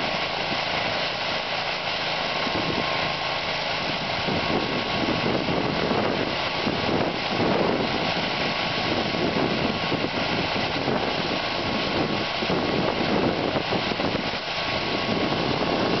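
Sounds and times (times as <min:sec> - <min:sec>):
snowblower engine running: 0:00.0 - 0:16.0.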